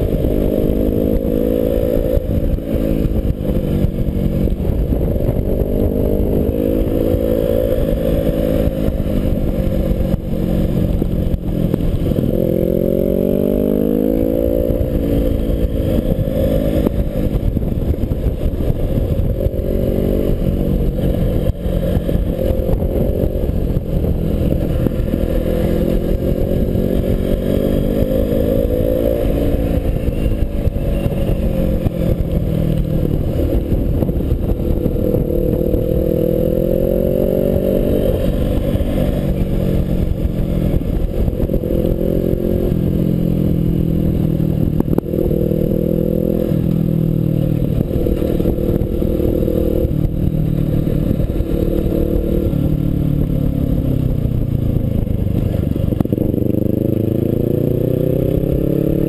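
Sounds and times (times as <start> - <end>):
motorcycle engine revving: 0.0 - 59.0
wind rushing over camera: 0.0 - 59.0.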